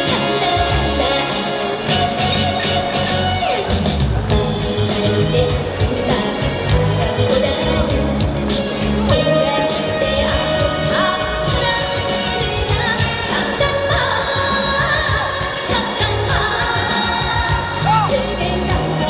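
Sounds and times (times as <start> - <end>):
woman singing: 0.0 - 3.6, 4.3 - 19.0
trot backing track: 0.0 - 19.0.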